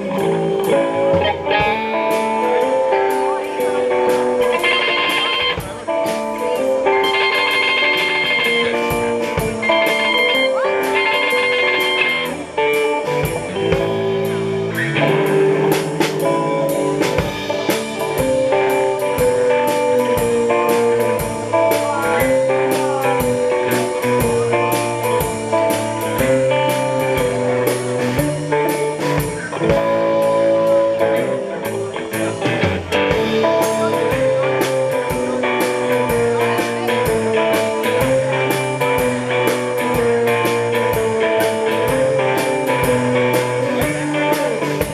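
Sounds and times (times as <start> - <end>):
canjo: 0.0 - 44.9
drum kit beat: 0.0 - 44.9
electric guitar: 0.0 - 44.9.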